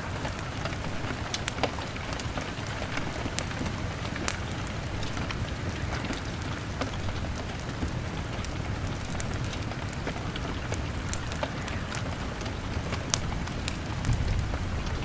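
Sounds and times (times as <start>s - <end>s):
log fire crackling: 0.0s - 15.0s
rain beating on a window: 0.0s - 15.0s.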